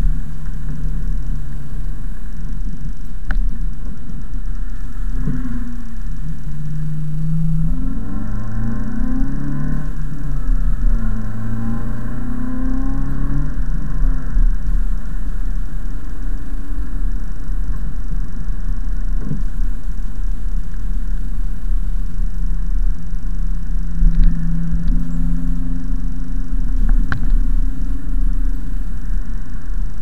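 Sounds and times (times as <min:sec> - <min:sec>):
car engine drone: 0:00.0 - 0:30.0
road rumble: 0:00.0 - 0:30.0.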